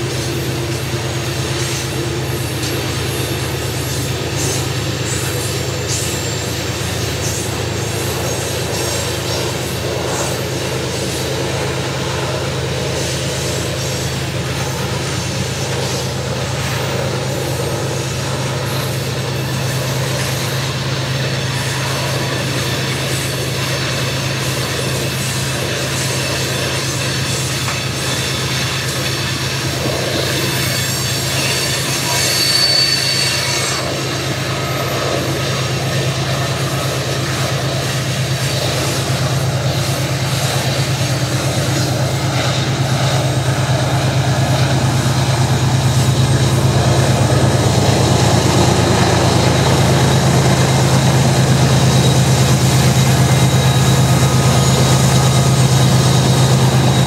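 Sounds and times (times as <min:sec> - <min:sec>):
diesel locomotive engine: 0:00.0 - 0:57.0
high wheel squeal: 0:00.0 - 0:57.0
hopper cars rolling: 0:00.0 - 0:57.0.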